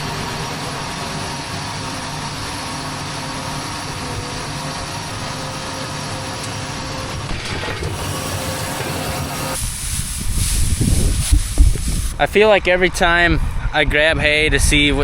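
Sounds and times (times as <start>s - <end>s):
tractor engine drone: 0.0s - 12.9s.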